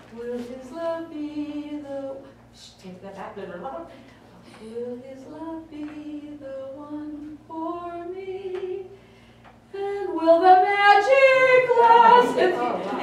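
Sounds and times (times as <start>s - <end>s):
woman singing unaccompanied: 0.0s - 9.0s, 9.7s - 13.0s.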